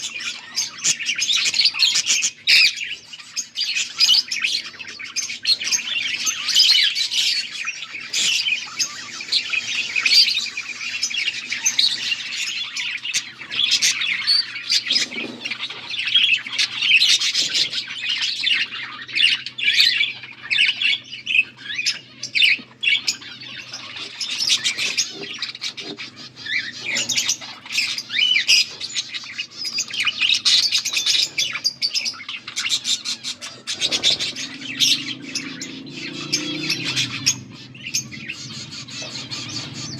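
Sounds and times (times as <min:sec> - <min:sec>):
bird squawks: 0:00.0 - 0:39.9
budgerigars chirping and warbling: 0:00.0 - 0:39.9.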